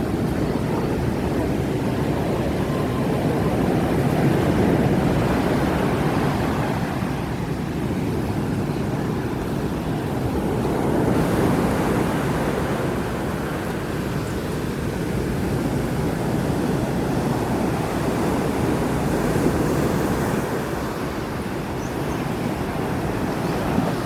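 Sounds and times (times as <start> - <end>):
heavy surf breaking on beach: 0.0 - 24.0
wind buffeting microphone: 0.0 - 24.0.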